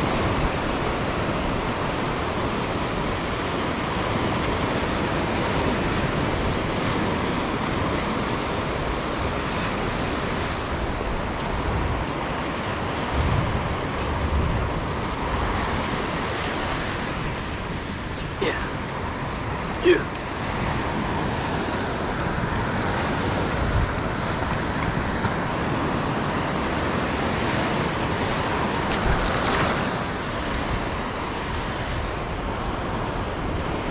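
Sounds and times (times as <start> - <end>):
waves breaking on beach: 0.0 - 33.9
wind rumbling on microphone: 0.0 - 33.9.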